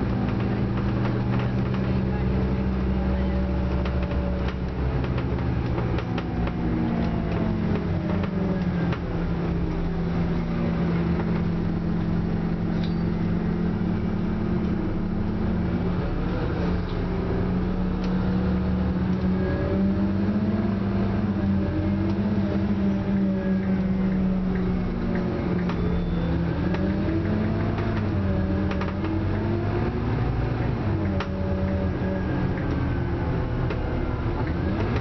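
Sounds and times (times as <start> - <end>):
bus body rattles: 0.0 - 19.4, 21.2 - 35.0
bus engine humming: 0.0 - 35.0.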